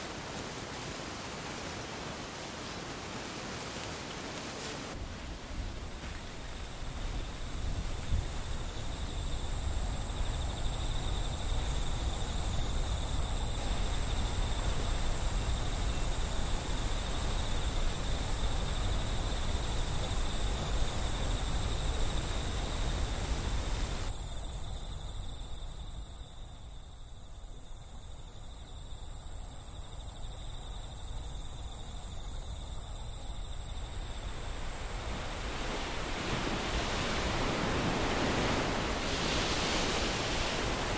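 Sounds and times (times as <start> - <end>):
wind rustling tall grass: 0.0 - 40.9
wind rumbling on microphone: 4.2 - 28.6, 29.2 - 40.9
insect chirring: 5.9 - 40.9.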